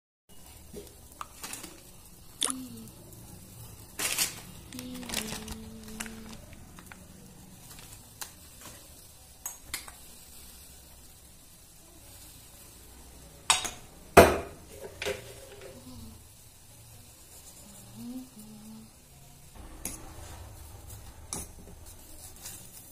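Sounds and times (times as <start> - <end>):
water boiling in a pot: 0.3 - 22.9.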